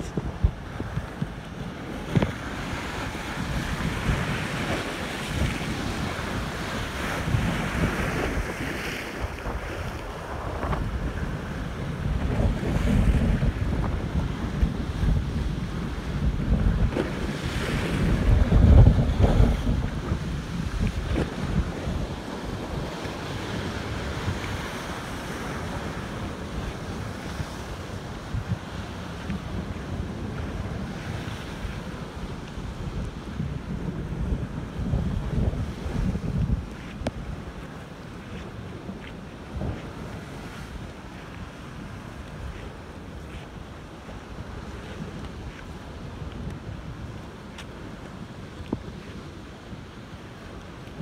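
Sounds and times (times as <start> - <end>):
waves breaking against a pier: 0.0 - 51.0
wind buffeting microphone: 0.0 - 51.0.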